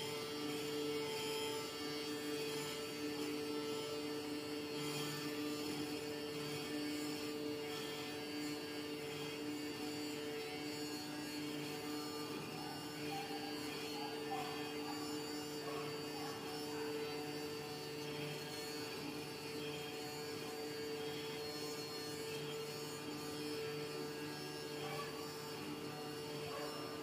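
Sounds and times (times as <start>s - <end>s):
foam cutter machine hum: 0.0s - 27.0s.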